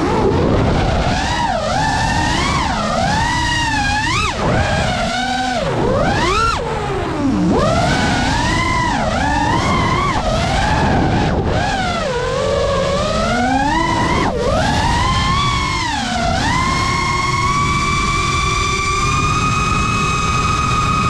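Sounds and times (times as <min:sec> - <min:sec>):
drone motors whining: 0:00.0 - 0:21.0
wind and propeller wash: 0:00.0 - 0:21.0.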